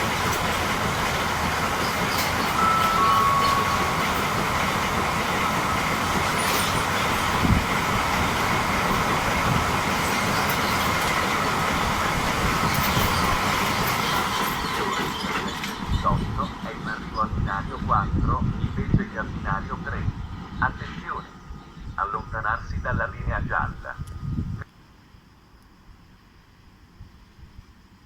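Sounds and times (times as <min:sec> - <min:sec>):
train passing on rails: 0:00.0 - 0:28.0.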